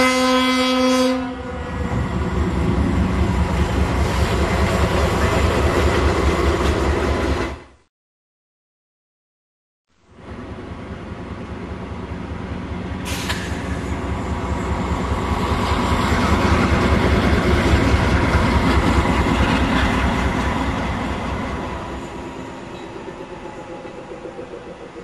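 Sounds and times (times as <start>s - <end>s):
diesel locomotives rumbling past: 0.0s - 7.8s, 10.0s - 25.0s.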